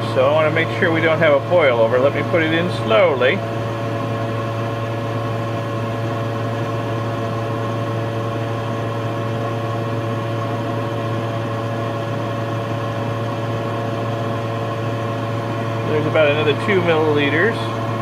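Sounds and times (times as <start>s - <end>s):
ventilation fan humming: 0.0s - 18.0s.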